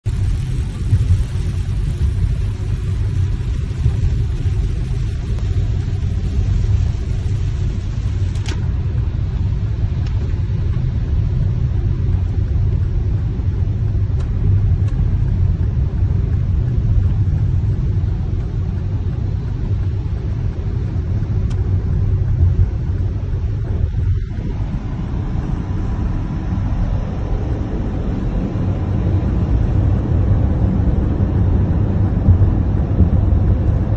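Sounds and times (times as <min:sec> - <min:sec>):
car road noise rumble: 0:00.0 - 0:33.9
tyres on wet road: 0:00.0 - 0:33.9.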